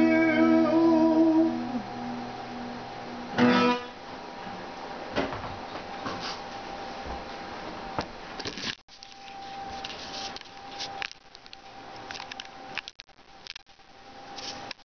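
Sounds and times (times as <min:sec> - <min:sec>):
faint steady hum: 0:00.0 - 0:14.8.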